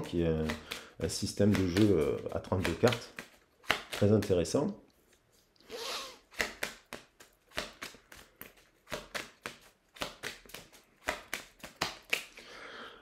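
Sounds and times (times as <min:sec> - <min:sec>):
cards being shuffled: 0:00.0 - 0:12.4.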